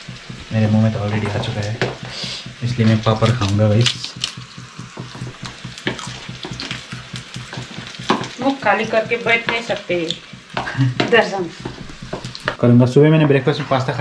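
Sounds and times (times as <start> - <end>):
fritters deep-frying in oil: 0.0 - 12.6.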